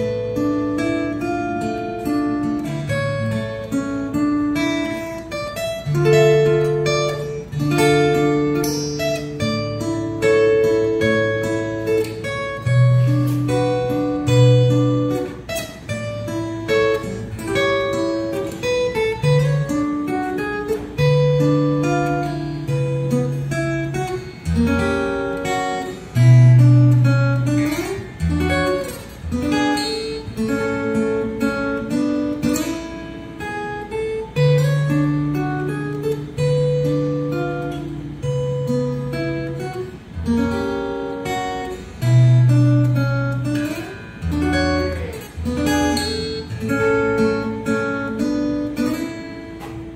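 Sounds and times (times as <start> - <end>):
fingerstyle acoustic guitar: 0.0 - 49.9.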